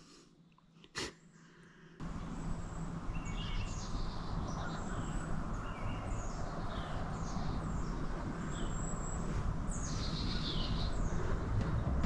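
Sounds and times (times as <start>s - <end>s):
birds chirping: 2.0s - 12.0s
steady low rumble: 2.0s - 12.0s.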